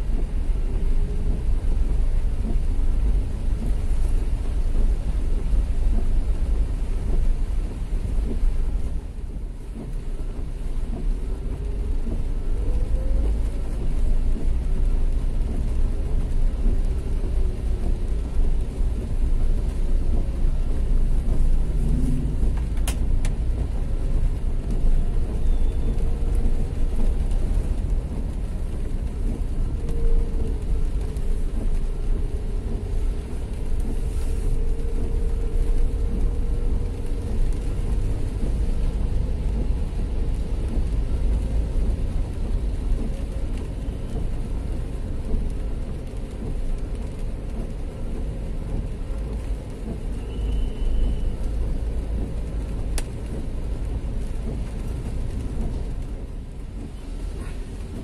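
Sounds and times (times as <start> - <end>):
vehicle engines running: 0.0 - 58.0.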